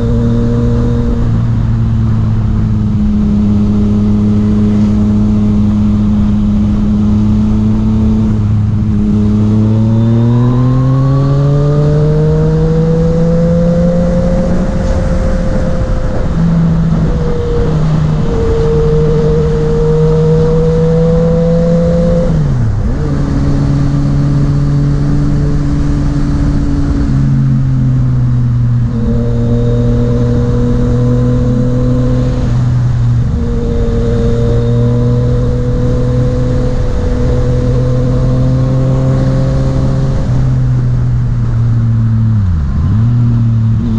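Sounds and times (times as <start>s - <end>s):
motorcycle engine accelerating: 0.0s - 43.9s
wind rush: 0.0s - 43.9s.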